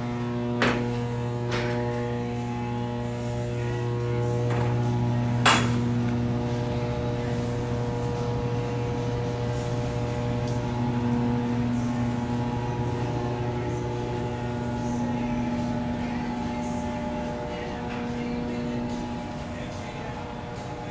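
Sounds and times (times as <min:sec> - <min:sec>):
engine room machinery drone: 0:00.0 - 0:20.9.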